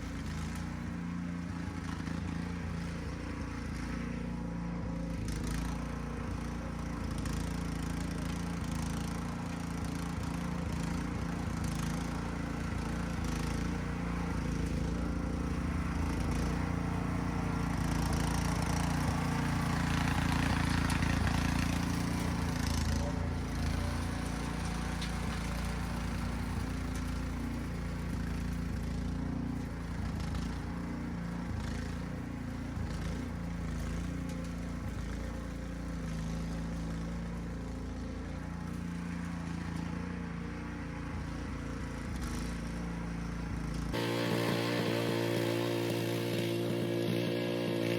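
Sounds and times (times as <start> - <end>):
small gasoline engine running: 0.0 - 47.9.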